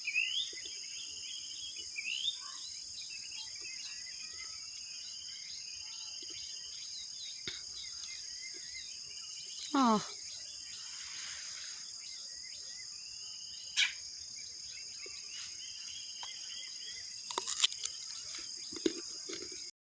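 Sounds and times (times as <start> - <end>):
high-pitched insect chorus: 0.0 - 19.7
small birds chirping: 0.0 - 19.7.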